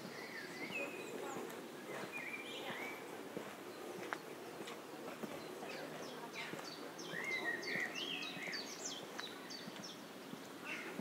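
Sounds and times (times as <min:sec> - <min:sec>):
outdoor background noise: 0:00.0 - 0:11.0
songbird singing: 0:00.0 - 0:11.0.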